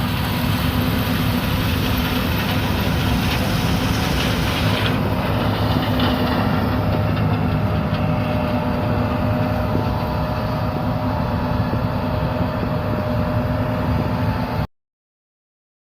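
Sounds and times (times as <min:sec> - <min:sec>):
deep diesel drone of machinery: 0:00.0 - 0:14.7.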